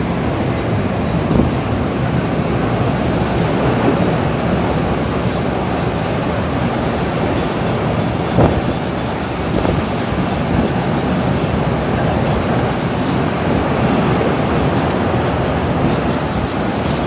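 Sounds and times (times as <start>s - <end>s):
rushing wind noise: 0.0s - 17.0s.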